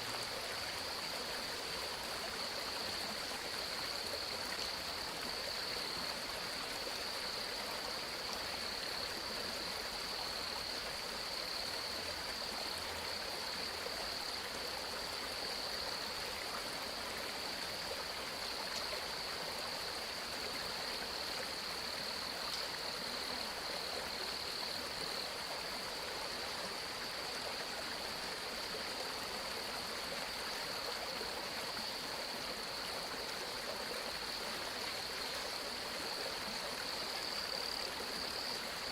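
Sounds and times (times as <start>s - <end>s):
flowing stream water: 0.0s - 38.9s.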